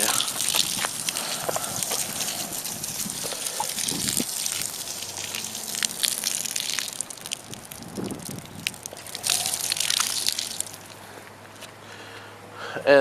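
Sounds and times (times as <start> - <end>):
water pouring onto plants: 0.0 - 11.0
water splashes: 0.0 - 11.2.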